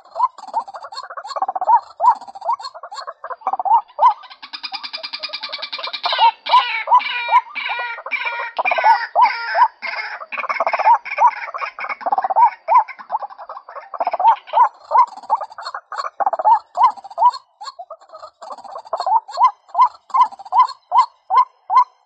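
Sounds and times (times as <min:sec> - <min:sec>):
harsh rapid bird chatter: 0:00.0 - 0:22.0
waterhen short rising calls: 0:00.0 - 0:22.0.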